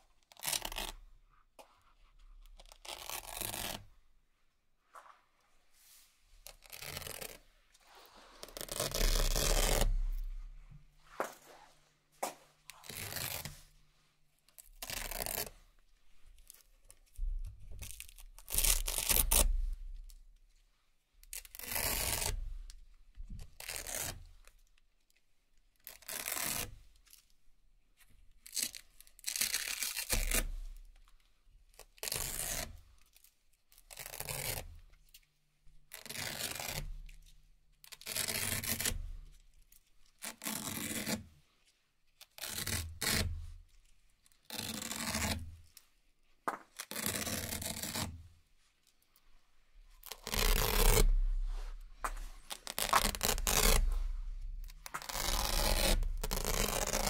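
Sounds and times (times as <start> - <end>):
hook-and-loop ties ripping: 0.0 - 3.9, 6.4 - 10.6, 12.2 - 13.8, 14.5 - 15.7, 16.3 - 20.2, 21.2 - 25.2, 25.8 - 27.3, 28.4 - 57.0.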